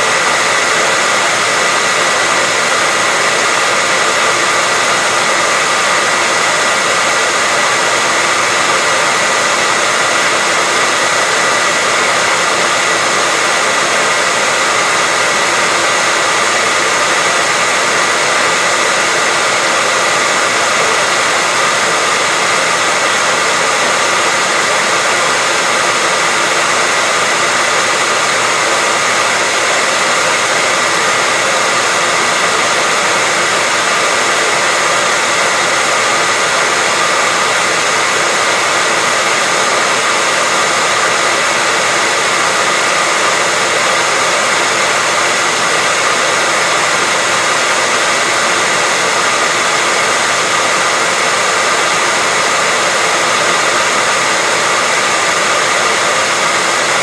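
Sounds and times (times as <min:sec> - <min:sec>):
hairdryer whooshing: 0:00.0 - 0:57.0.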